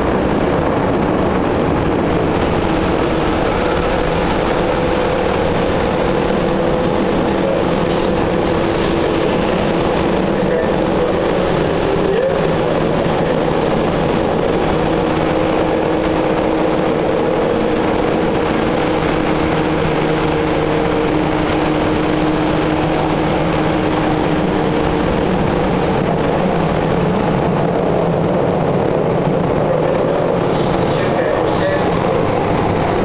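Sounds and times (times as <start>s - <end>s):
train rumbling in tunnel: 0.0s - 33.0s.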